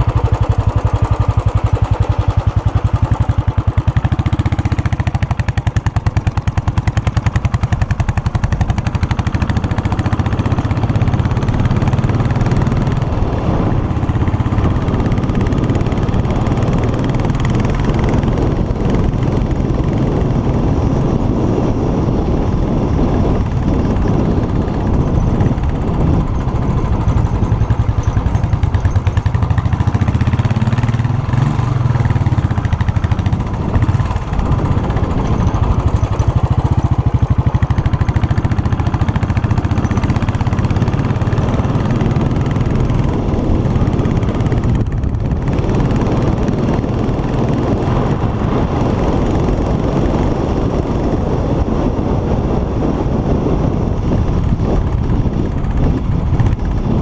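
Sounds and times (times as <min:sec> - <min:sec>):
motorcycle engine exhaust beats: 0:00.0 - 0:57.0.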